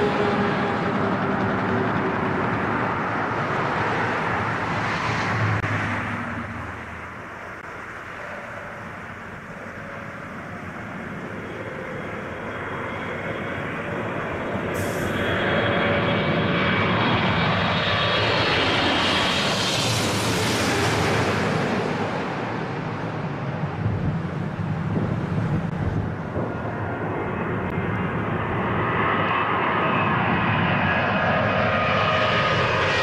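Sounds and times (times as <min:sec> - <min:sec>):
jet engine roar overhead: 0:00.0 - 0:33.0.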